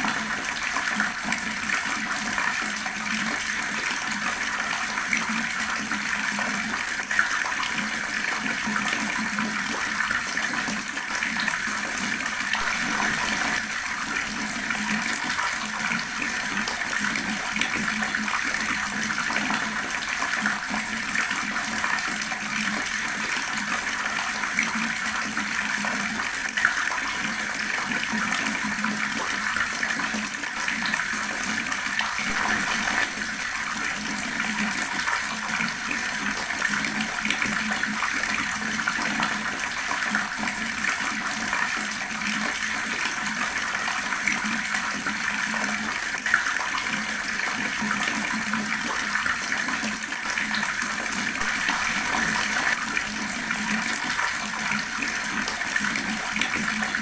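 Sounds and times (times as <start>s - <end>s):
water tap running and gurgling: 0.0s - 57.0s.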